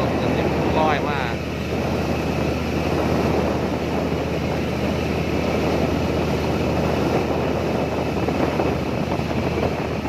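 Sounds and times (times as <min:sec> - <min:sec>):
boat engine droning: 0:00.0 - 0:10.0
rushing water and air: 0:00.0 - 0:10.0.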